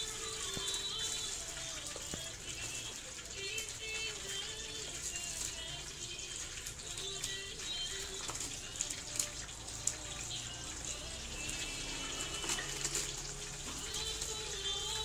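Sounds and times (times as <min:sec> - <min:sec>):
crackers crackling: 0:00.0 - 0:15.0.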